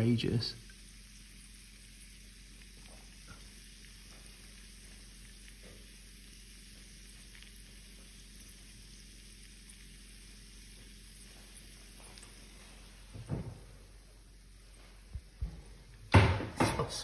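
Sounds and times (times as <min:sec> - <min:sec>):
bacon sizzling in a frying pan: 0:00.0 - 0:15.4.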